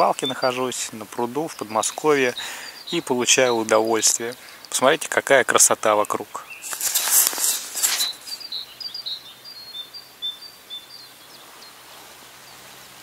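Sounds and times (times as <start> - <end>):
faint outdoor hiss: 0.0 - 13.0
small birds chirping: 0.0 - 13.0.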